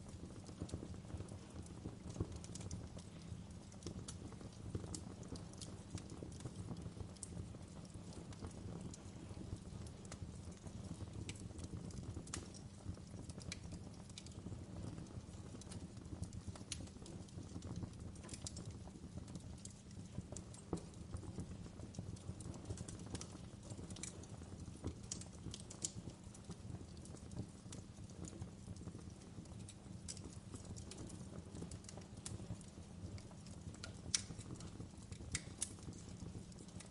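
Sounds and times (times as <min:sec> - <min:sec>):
fireplace fire crackling: 0:00.0 - 0:36.9
low rumble of flames: 0:00.0 - 0:36.9.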